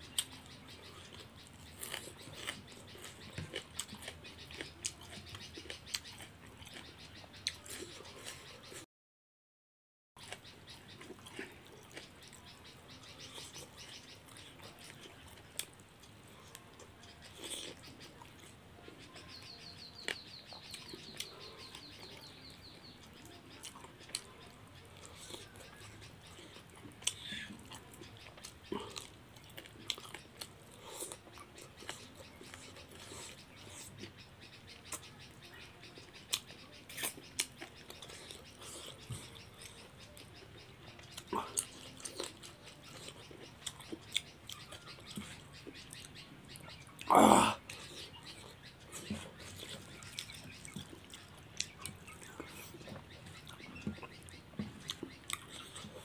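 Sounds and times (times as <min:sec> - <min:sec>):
chewing and lip-smacking: 0:00.1 - 0:08.8, 0:10.2 - 0:12.7, 0:13.3 - 0:34.2, 0:36.3 - 0:56.0.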